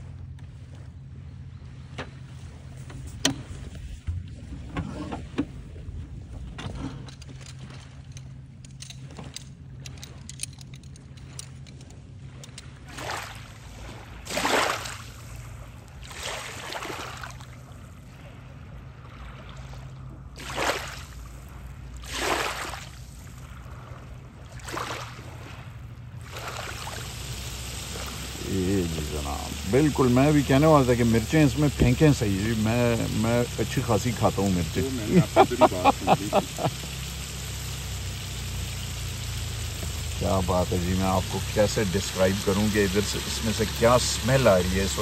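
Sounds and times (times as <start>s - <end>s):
lake waves washing in: 0.0s - 45.0s
steady low hum: 0.0s - 45.0s.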